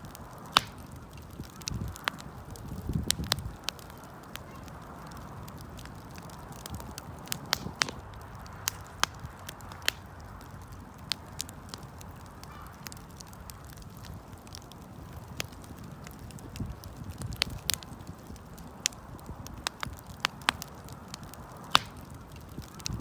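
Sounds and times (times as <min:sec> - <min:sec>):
fire popping and crackling: 0:00.0 - 0:23.0
wood fire rushing flame: 0:00.0 - 0:23.0.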